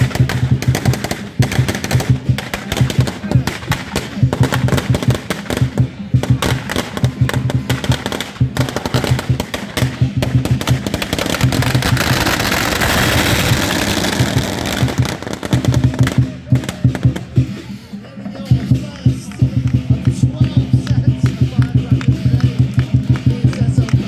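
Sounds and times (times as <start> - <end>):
drumming: 0.0 - 24.0
firecrackers crackling: 0.0 - 24.0.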